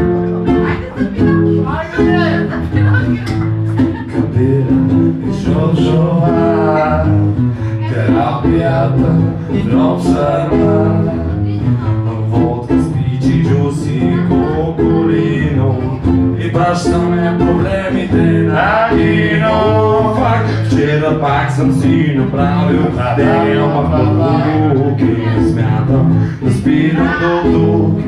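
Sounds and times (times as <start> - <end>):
two guitars playing: 0.0 - 28.0
man singing into a microphone: 3.4 - 28.0.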